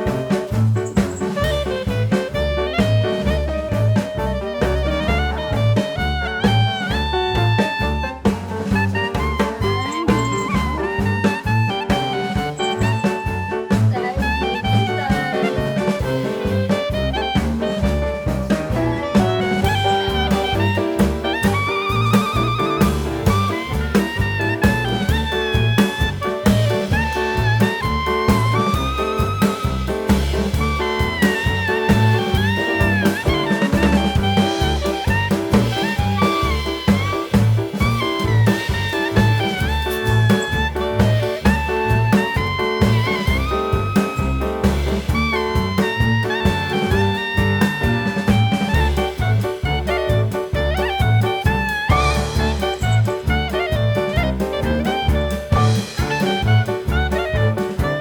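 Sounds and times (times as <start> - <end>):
upbeat swing jazz music: 0.0 - 58.0.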